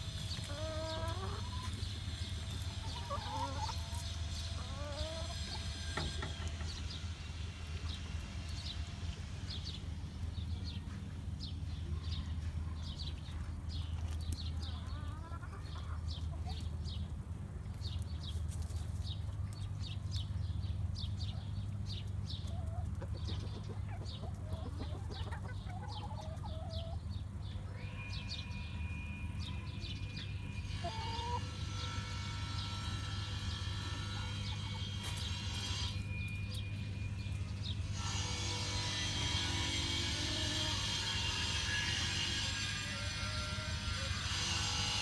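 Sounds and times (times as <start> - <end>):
chickens clucking: 0.0 - 9.4, 11.9 - 20.4, 21.0 - 45.0.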